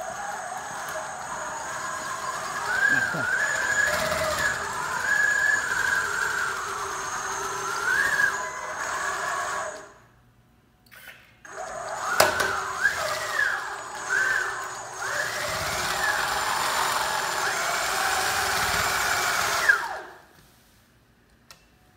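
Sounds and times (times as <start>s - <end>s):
electric motors whining: 0.0s - 10.1s, 11.5s - 20.2s.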